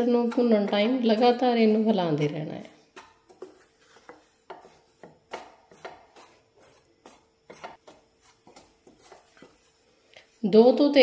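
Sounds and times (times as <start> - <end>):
spatula scraping flour in pan: 0.0 - 11.0.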